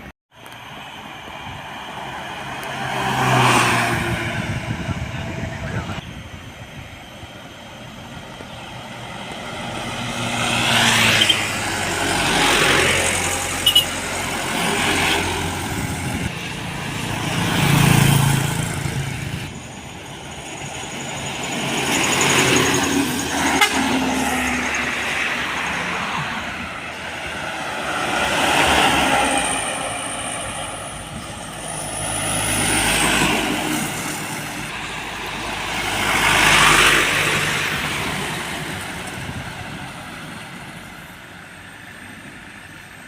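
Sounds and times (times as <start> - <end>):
heavy trucks passing: 0.0 - 43.0.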